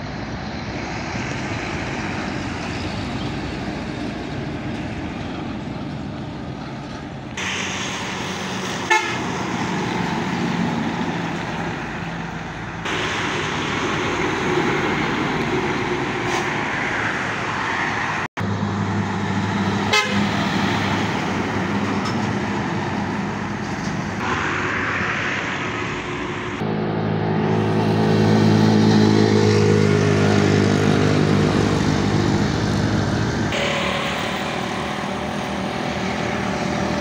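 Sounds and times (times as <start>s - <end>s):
heavy trucks driving past: 0.0s - 37.0s.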